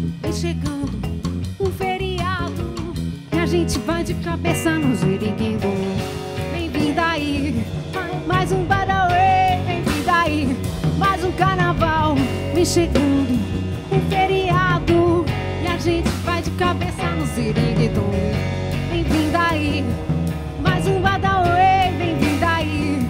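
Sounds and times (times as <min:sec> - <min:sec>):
pop-rock band playing: 0:00.0 - 0:23.0
woman singing: 0:00.1 - 0:23.0.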